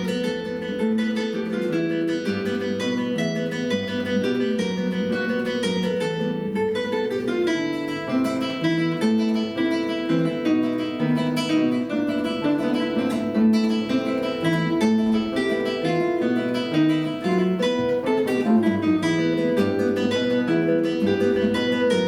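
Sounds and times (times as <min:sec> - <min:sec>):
two acoustic guitars playing: 0:00.0 - 0:22.0.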